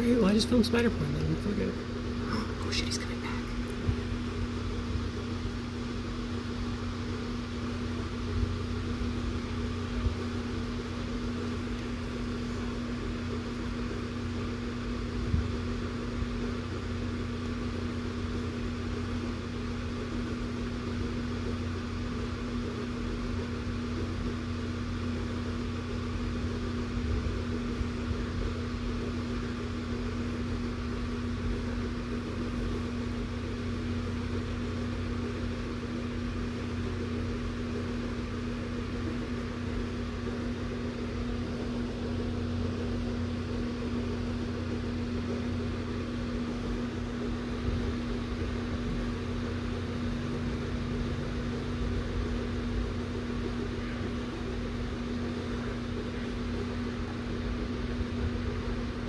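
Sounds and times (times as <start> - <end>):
electric fan whirring: 0.0 - 59.0.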